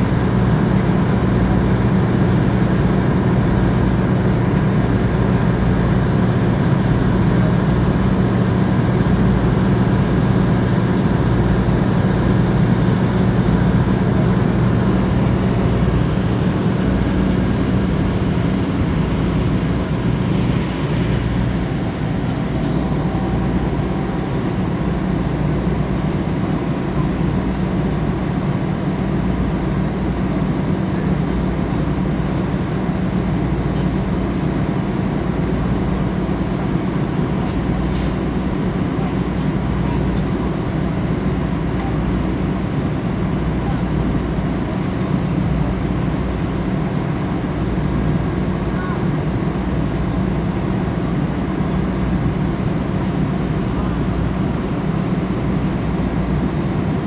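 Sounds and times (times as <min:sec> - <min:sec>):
fire engine idling: 0:00.0 - 0:57.0
power unit engine drone: 0:00.0 - 0:57.0.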